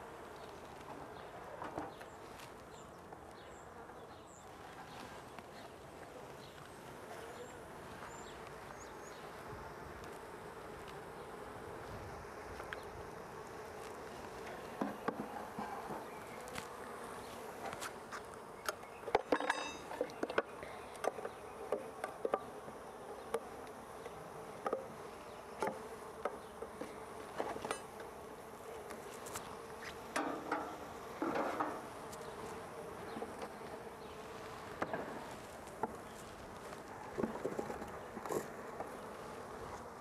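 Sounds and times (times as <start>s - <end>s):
honeybees buzzing: 0.0s - 40.0s.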